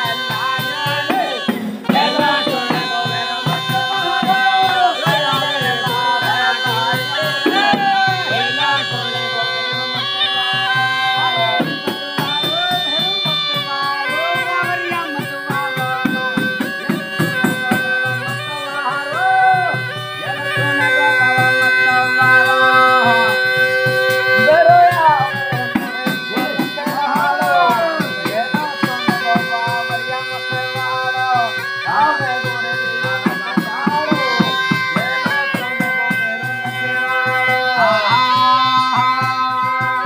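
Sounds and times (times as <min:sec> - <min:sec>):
rhythmic percussion beat: 0:00.0 - 0:40.0
wavering folk melody: 0:00.0 - 0:40.0
held drone: 0:01.3 - 0:40.0.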